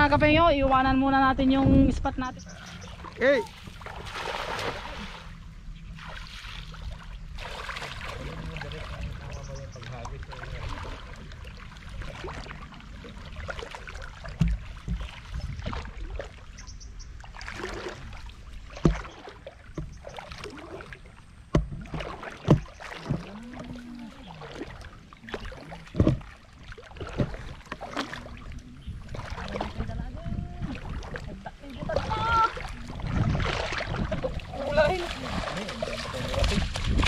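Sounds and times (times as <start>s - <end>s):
water sloshing around wading legs: 0.0s - 37.0s.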